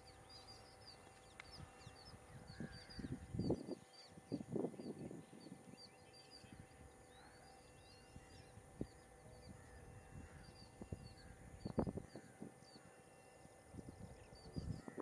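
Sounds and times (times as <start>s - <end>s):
faint steady hum: 0.0s - 15.0s
small birds chirping: 0.0s - 15.0s.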